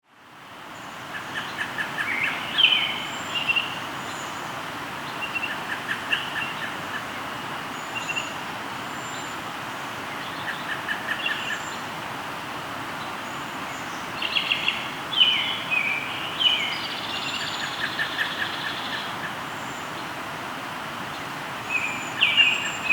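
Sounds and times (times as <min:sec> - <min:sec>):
flowing river: 0:00.1 - 0:22.9
birds chirping and trilling: 0:00.8 - 0:09.4, 0:10.1 - 0:11.9, 0:13.0 - 0:20.1, 0:21.1 - 0:22.9.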